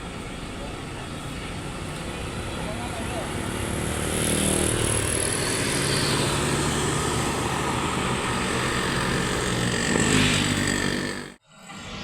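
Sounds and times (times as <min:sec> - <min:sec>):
heavy vehicle engine running: 0:00.0 - 0:11.4
road traffic noise: 0:00.0 - 0:12.0.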